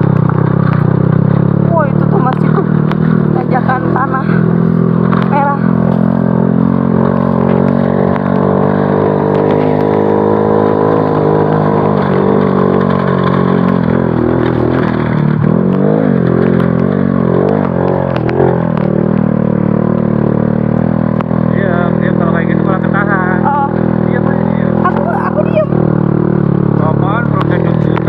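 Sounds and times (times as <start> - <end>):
motorcycle engine under load: 0.0 - 28.0.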